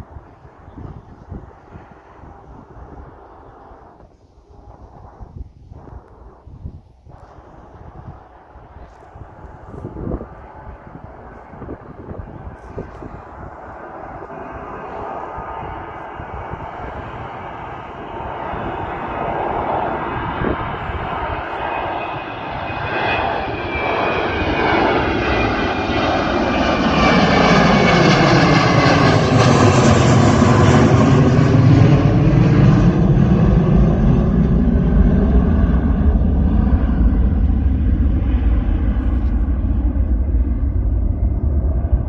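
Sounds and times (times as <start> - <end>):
jet airliner taking off: 0.0 - 42.0.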